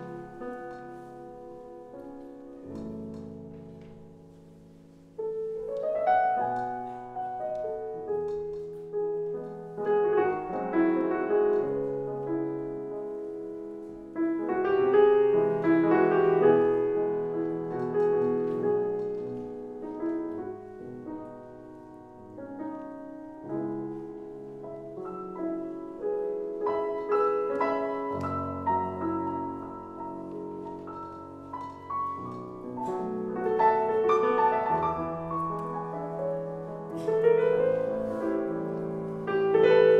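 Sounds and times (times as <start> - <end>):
solo classical piano: 0.0 - 39.9.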